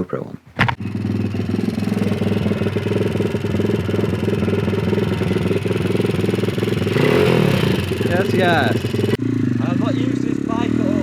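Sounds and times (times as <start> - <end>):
motorbike engine idling: 0.5 - 10.5.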